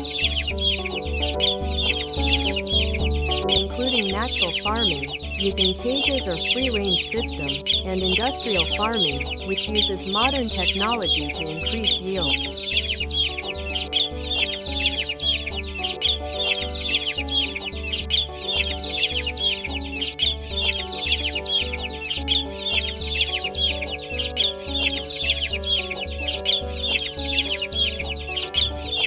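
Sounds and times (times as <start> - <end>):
background music with beat: 0.0 - 29.0
chicks peeping: 0.0 - 29.0.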